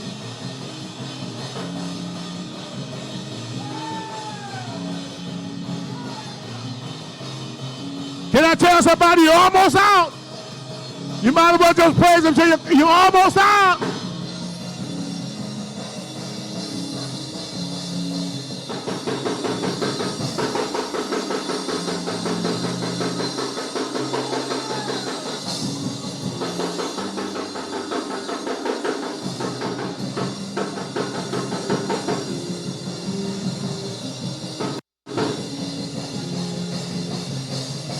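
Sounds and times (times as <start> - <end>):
band playing fast praise music: 0.0 - 37.9
drum kit: 0.0 - 37.9.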